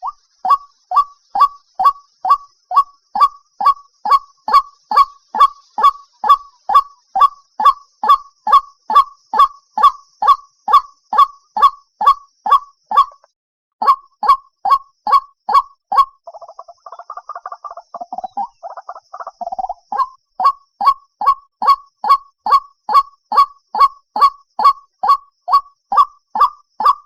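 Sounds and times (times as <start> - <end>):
bird calling sharp notes: 0.0 - 27.0.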